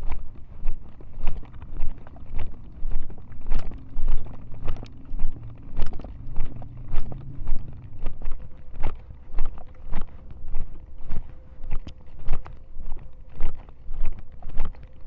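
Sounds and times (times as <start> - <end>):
footsteps on paved path: 0.0 - 15.0
low rumble: 0.0 - 15.0.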